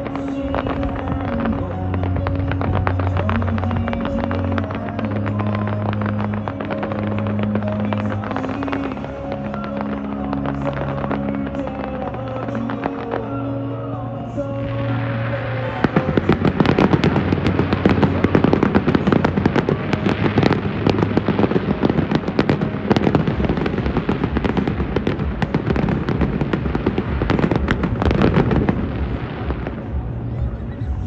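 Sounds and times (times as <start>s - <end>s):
fireworks popping and crackling: 0.0s - 31.0s.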